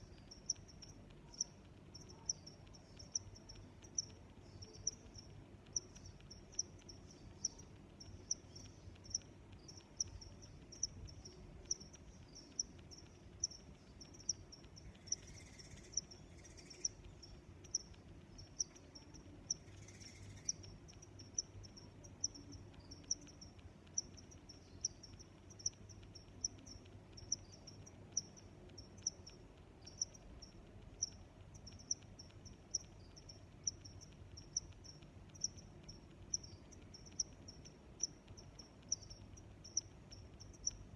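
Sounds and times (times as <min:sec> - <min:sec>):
crickets chirping: 0:00.0 - 0:40.9
sharp tick: 0:00.0 - 0:40.9.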